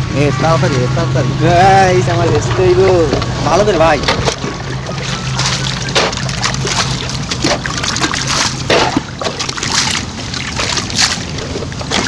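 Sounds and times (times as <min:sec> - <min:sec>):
water splashing and sloshing: 0:00.6 - 0:12.0.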